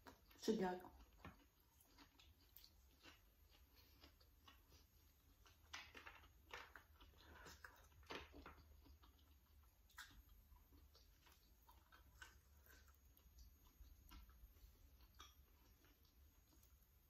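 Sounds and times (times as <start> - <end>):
close-up chewing: 0.0 - 17.0.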